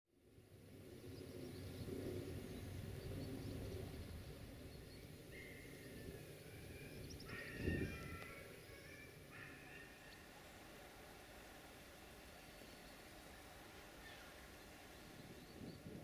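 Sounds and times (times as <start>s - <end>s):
steady low rumble: 0.3s - 16.0s
birds chirping: 1.2s - 16.0s.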